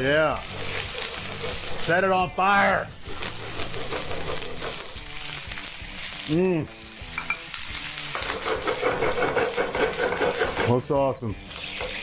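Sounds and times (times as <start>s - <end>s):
sherry sizzling in a hot pan: 0.0s - 10.7s, 11.3s - 12.0s.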